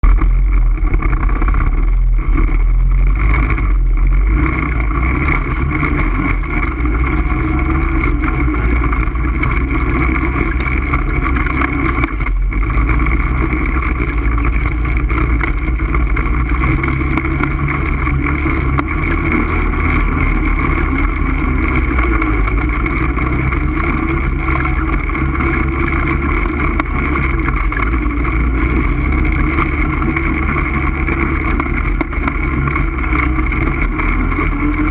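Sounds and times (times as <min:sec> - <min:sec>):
atv engine running: 0:00.0 - 0:34.9.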